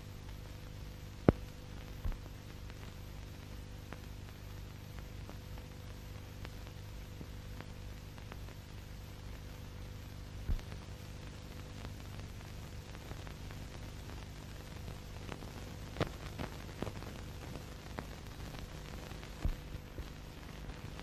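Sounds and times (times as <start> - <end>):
film soundtrack hiss and hum: 0.0 - 21.0
crackle ticks: 0.3 - 21.0.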